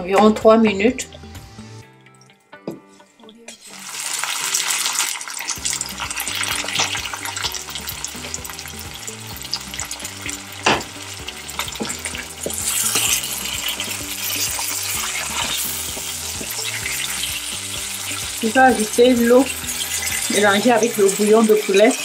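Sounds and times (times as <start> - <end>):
food sizzling in hot oil: 2.9 - 22.0.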